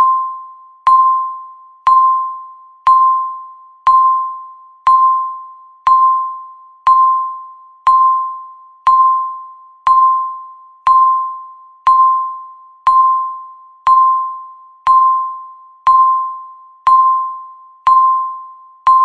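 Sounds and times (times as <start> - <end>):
countdown timer chime beeps: 0.0 - 19.0.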